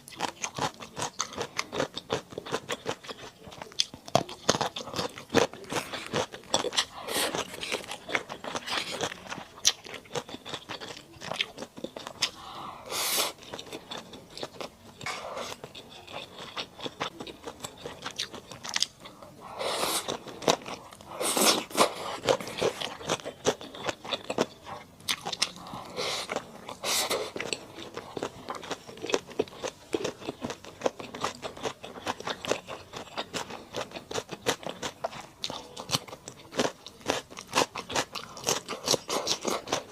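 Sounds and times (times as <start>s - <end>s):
close chewing and crunching: 0.0s - 39.9s.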